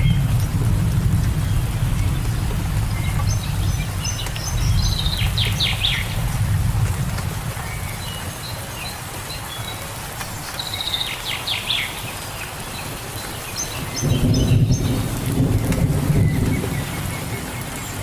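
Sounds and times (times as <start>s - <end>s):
birds chirping: 0.0s - 18.0s
rain hiss: 0.0s - 18.0s.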